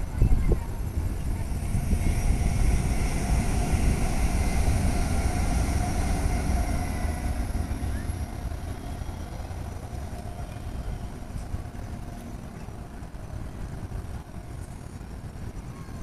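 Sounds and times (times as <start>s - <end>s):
electric train passing rumble: 0.0s - 16.0s.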